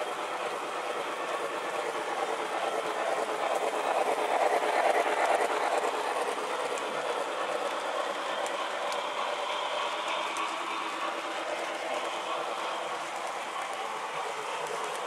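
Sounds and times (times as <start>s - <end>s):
toy train wheels rattling on rails: 0.0s - 15.0s.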